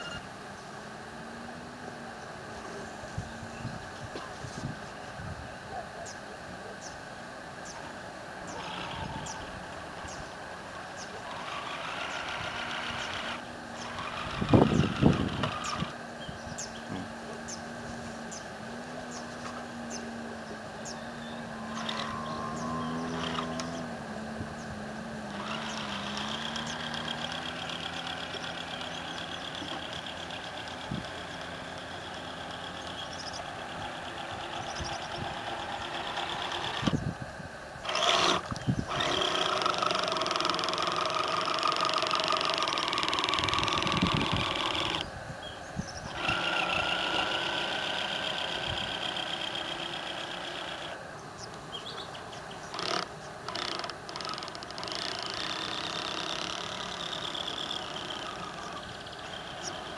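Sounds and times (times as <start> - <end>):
electric motor high whine: 0.0 - 6.0, 7.1 - 59.9.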